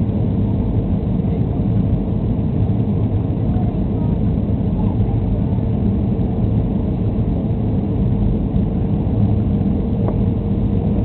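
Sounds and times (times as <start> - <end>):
faint steady hum: 0.0 - 11.0
jet engines and airflow rumble: 0.0 - 11.0.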